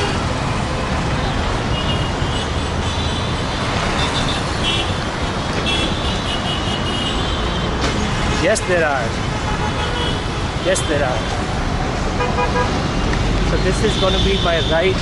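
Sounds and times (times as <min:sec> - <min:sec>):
city road traffic: 0:00.0 - 0:15.0.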